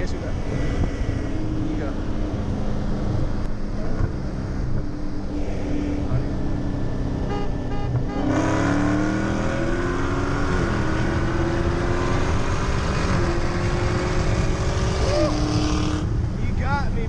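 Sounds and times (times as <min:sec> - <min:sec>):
car engine accelerating: 0:00.0 - 0:16.6
road and wind noise: 0:00.0 - 0:17.0.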